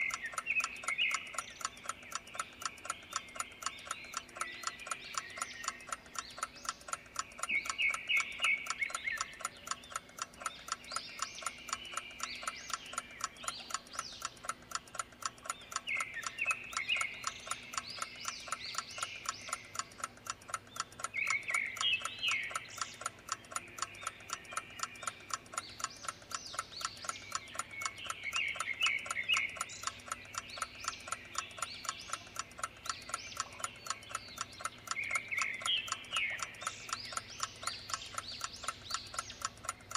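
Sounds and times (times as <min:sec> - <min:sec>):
birds chirping: 0:00.0 - 0:39.9
clock ticking: 0:00.0 - 0:39.9.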